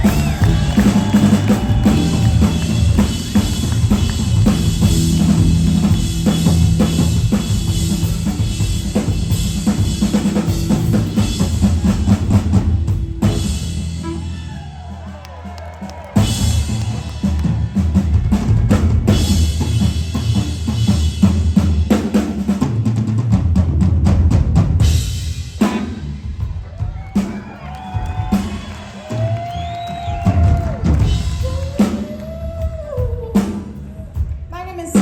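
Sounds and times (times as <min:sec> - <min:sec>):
blues-rock band playing: 0:00.0 - 0:22.9, 0:24.8 - 0:34.1
drum kit: 0:00.0 - 0:35.0.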